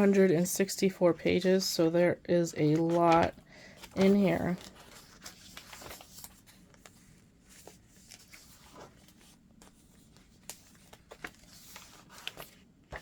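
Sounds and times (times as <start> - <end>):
paper pages rustling: 2.6 - 13.0.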